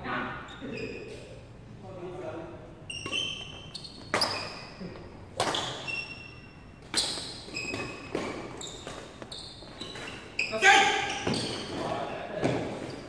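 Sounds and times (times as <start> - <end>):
shoes squeaking on court floor: 0.4 - 1.5, 2.8 - 13.0.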